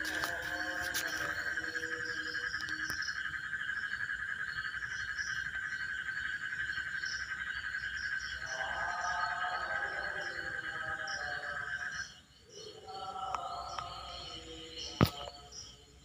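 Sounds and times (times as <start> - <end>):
night animal chorus drone: 0.0 - 16.0.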